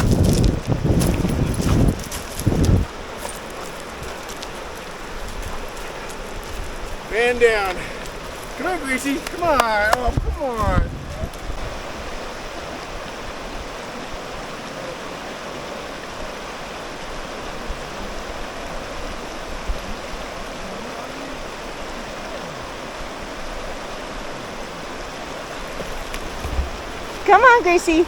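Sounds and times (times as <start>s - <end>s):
river flowing: 0.0s - 28.0s.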